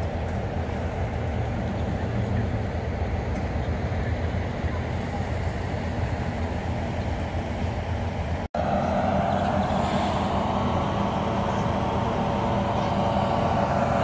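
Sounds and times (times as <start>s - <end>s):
locomotive engine idling: 0.0s - 14.0s.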